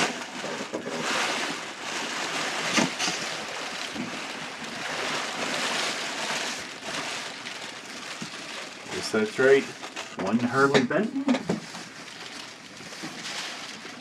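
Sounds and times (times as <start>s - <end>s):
cardboard scraping: 0.0s - 14.0s
plastic packing crinkling: 0.0s - 14.0s.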